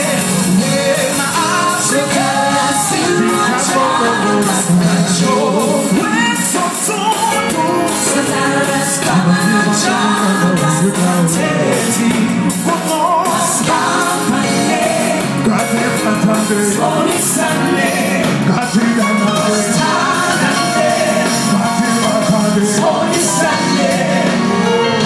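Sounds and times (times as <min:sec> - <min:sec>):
drums: 0:00.0 - 0:25.0
guitar: 0:00.0 - 0:25.0
men singing together: 0:00.0 - 0:25.0.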